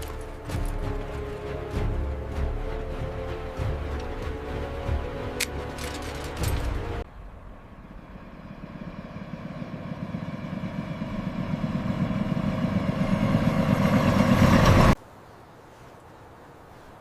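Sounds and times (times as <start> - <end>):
train rumble approaching: 0.0 - 15.0.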